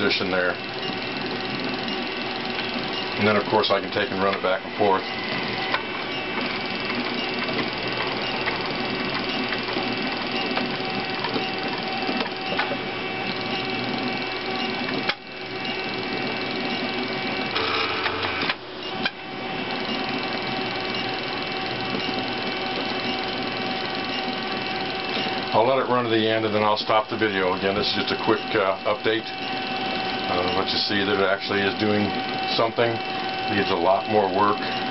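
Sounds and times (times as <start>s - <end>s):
stepper motors whining: 0.0s - 34.9s.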